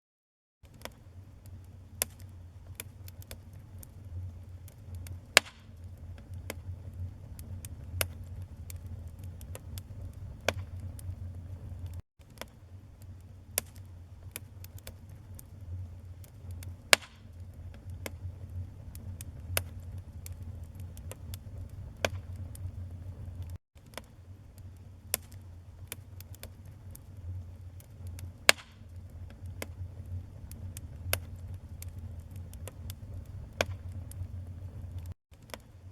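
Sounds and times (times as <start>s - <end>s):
sharp pops of fire: 0.6s - 4.0s, 4.6s - 35.6s
low rumble of flames: 0.6s - 35.5s
fire crackling: 0.6s - 35.6s.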